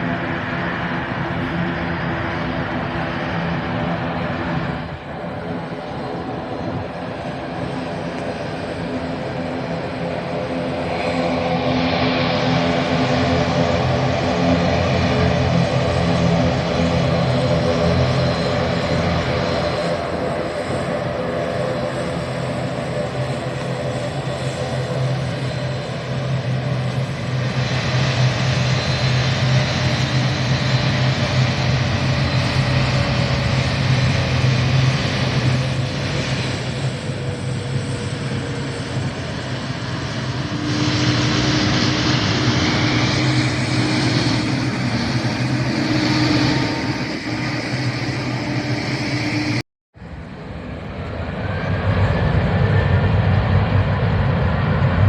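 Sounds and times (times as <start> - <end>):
airliner engines roaring: 0.0 - 55.0.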